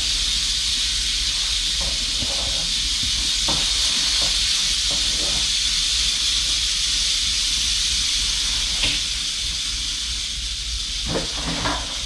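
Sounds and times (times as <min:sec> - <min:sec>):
rattlesnake rattling: 0:00.0 - 0:12.0.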